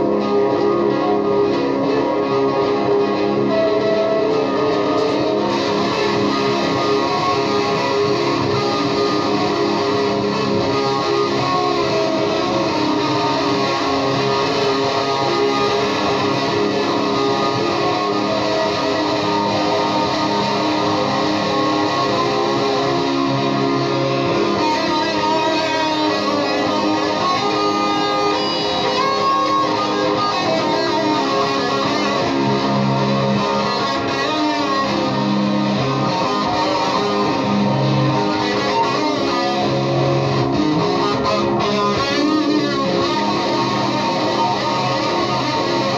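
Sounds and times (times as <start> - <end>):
distorted electric guitar noise: 0.0 - 45.9.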